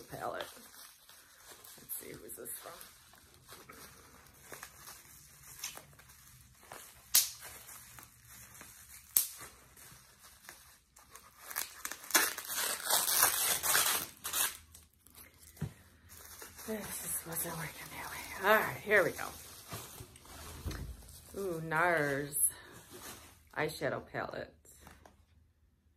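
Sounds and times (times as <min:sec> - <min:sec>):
wrapping crackling and tearing: 0:00.0 - 0:23.5
wrapping rustling: 0:00.0 - 0:23.8.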